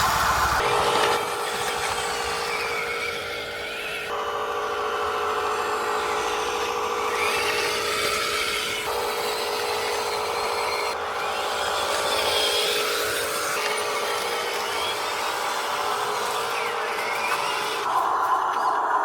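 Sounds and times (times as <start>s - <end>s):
electric motors and gears whining: 0.0s - 19.0s.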